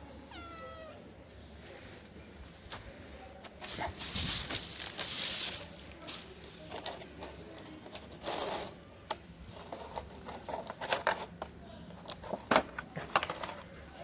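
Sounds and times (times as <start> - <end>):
crunching and crinkling: 0.6 - 14.0.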